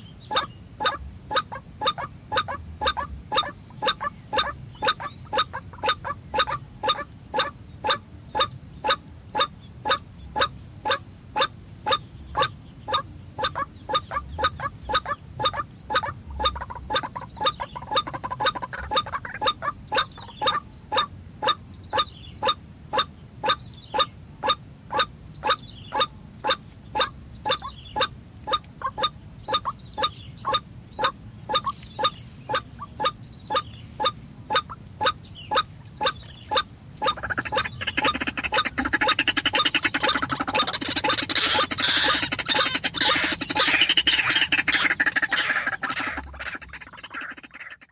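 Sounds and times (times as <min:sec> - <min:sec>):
dense bird chattering chorus: 0:00.0 - 0:47.9
waterhen calling: 0:00.0 - 0:47.9.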